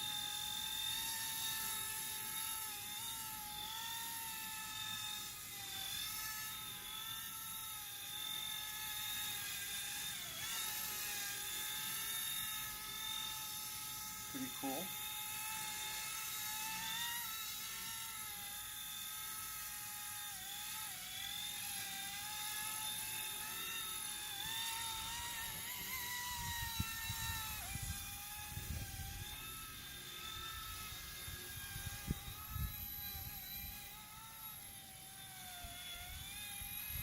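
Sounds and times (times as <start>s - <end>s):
remote-control helicopter whine: 0.0s - 37.0s.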